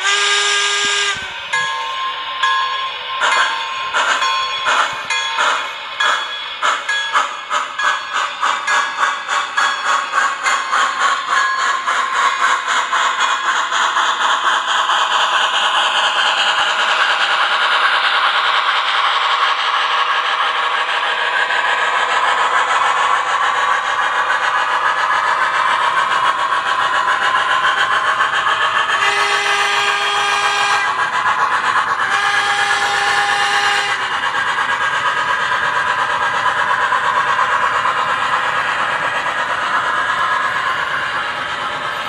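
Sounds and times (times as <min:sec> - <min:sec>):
model steam locomotive chuffing: 0:00.0 - 0:42.0.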